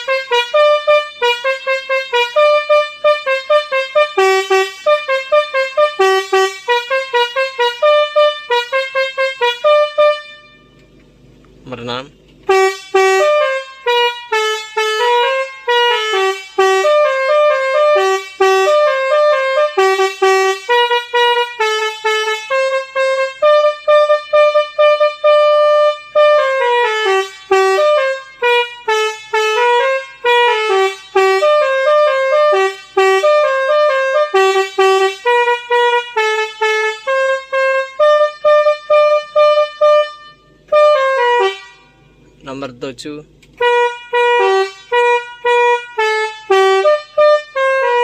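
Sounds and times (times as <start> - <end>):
bus horn playing a melody: 0.0 - 48.0.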